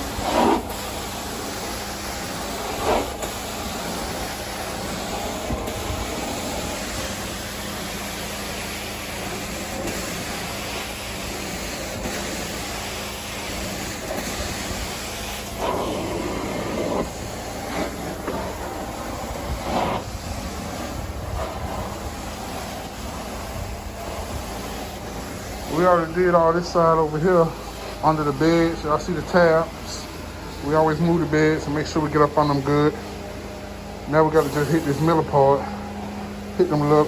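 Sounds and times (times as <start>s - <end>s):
extraction vacuum running: 0.0s - 37.0s.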